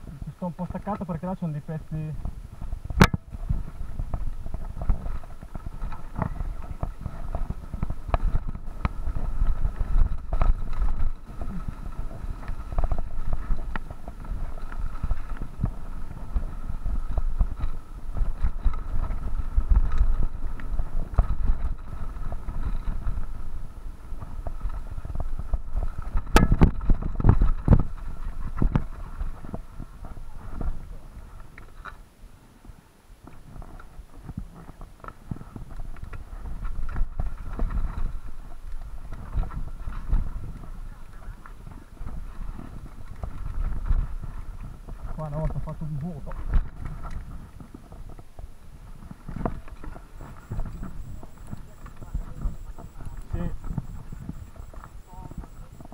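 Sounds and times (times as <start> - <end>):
bike rattling on rough trail: 0.0 - 32.2, 33.2 - 55.9
wind rumbling on microphone: 0.0 - 55.9.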